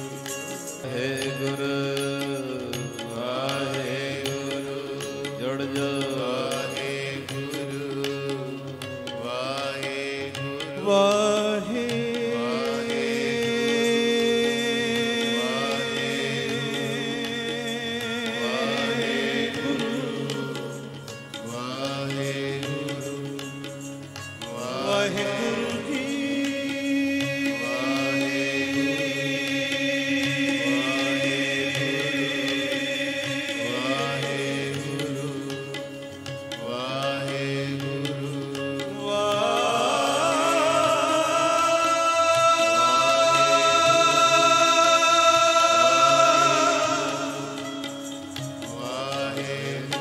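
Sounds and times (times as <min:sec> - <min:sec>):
slow melodic chanting: 0:00.0 - 0:50.0.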